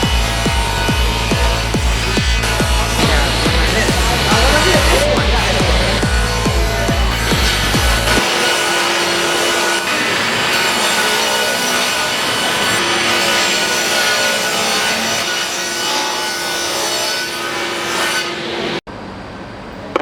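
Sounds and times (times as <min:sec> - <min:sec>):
saw cutting through wood: 0:00.0 - 0:18.8.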